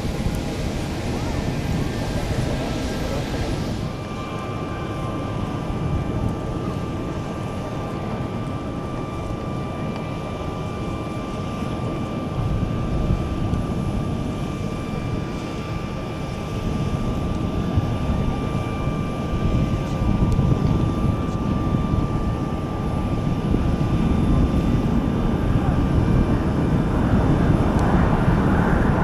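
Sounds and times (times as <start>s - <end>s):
jet engines rumbling: 0.0s - 29.0s
steady jet whine: 0.0s - 29.0s.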